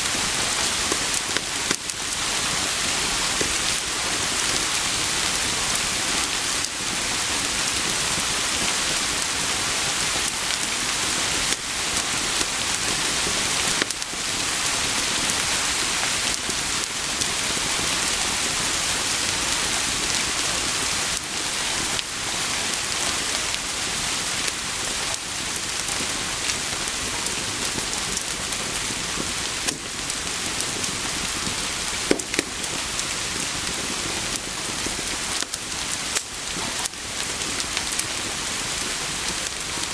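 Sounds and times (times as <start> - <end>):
heavy rain: 0.0 - 39.9
wood fire crackling: 0.0 - 39.9.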